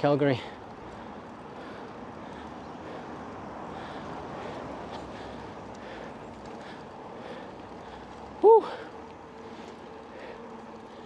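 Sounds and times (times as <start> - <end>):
bicycle rolling noise: 0.0 - 11.0
wind: 0.0 - 11.0.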